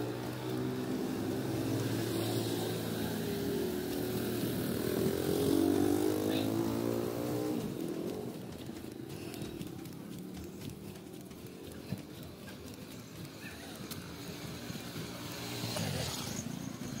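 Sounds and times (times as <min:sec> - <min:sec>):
small motorcycle engine passing: 0:00.0 - 0:17.0.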